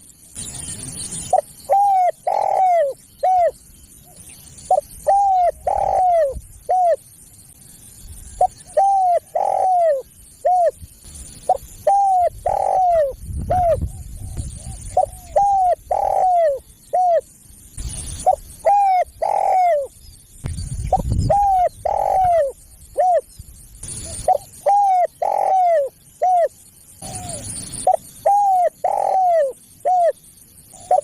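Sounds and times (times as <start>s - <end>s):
dove cooing: 0.4s - 7.0s, 8.4s - 10.8s, 11.5s - 17.3s, 18.2s - 19.9s, 20.9s - 31.0s.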